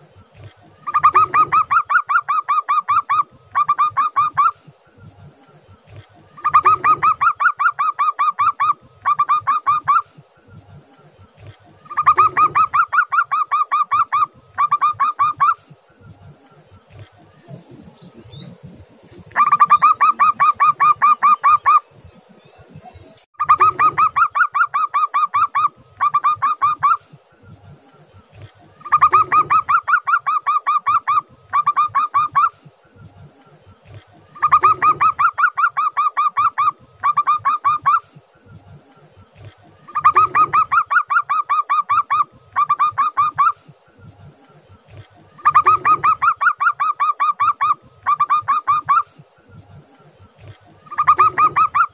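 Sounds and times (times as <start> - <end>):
dove cooing: 0.4 - 4.8, 5.5 - 10.3, 11.4 - 15.9, 16.6 - 21.9, 23.4 - 32.7, 33.8 - 38.3, 39.4 - 43.8, 44.8 - 49.4, 50.4 - 51.9.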